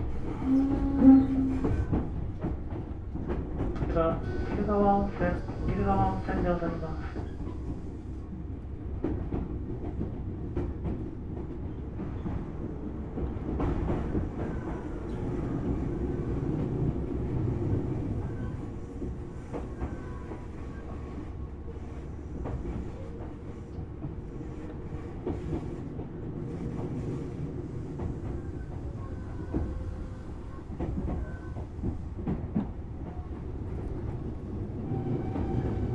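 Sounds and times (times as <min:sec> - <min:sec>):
train wheels rumbling: 0:00.0 - 0:35.9.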